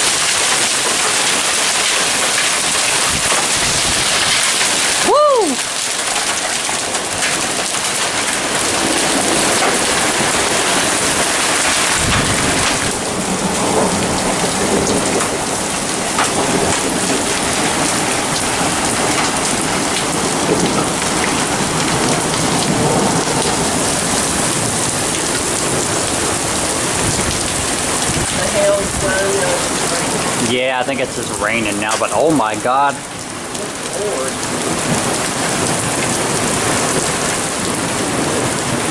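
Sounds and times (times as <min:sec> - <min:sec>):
heavy rain beating down: 0:00.0 - 0:38.9.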